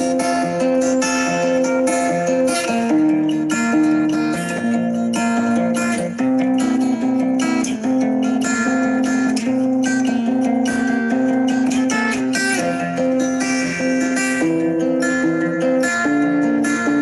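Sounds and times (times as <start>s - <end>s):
guitar background music: 0.0s - 17.0s.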